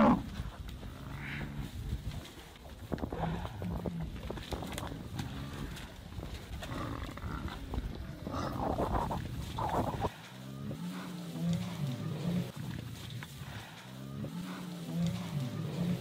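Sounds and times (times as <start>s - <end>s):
low drawn-out buffalo calls: 0.0s - 2.0s, 3.0s - 16.0s
lions growling: 3.1s - 16.0s.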